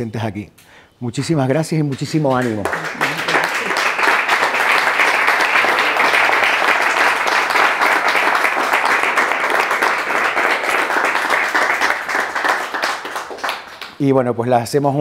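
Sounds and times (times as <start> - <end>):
crowd applauding: 1.2 - 14.2.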